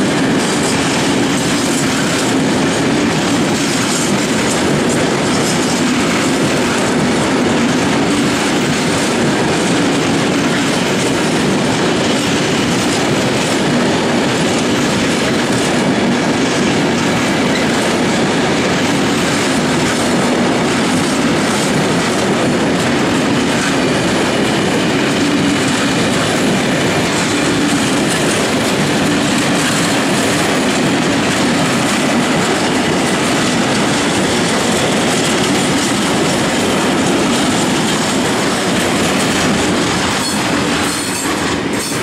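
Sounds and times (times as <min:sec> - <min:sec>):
freight train wheels clattering: 0:00.0 - 0:42.0.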